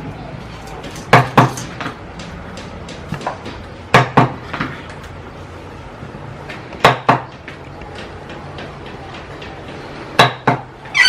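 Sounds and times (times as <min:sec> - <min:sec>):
steady hum: 0:00.0 - 0:10.9.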